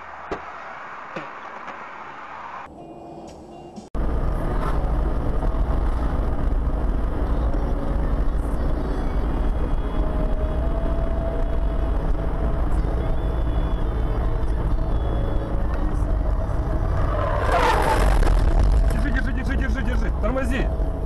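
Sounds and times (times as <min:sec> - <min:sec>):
car engine rumble: 0:00.0 - 0:21.0
road noise: 0:00.0 - 0:21.0.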